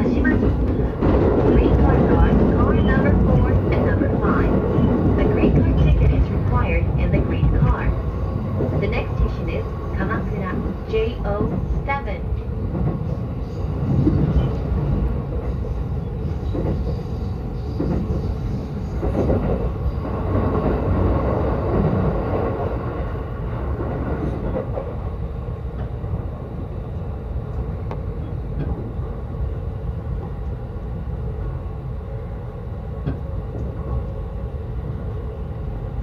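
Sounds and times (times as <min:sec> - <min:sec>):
train rumbling from inside carriage: 0:00.0 - 0:36.0.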